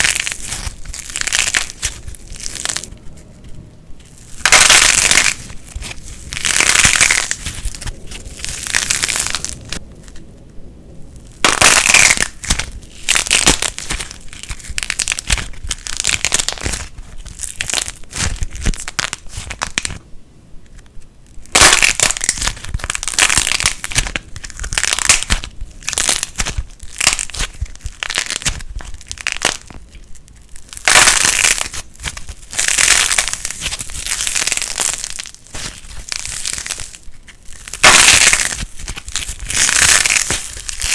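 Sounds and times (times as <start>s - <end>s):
plasticine crackling when squeezed: 0.0s - 10.4s, 11.2s - 20.0s, 20.6s - 40.9s.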